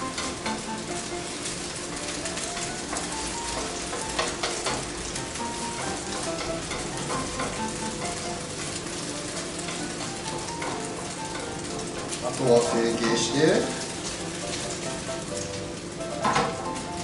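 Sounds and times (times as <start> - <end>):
egg sizzling in frying pan: 0.0 - 17.0.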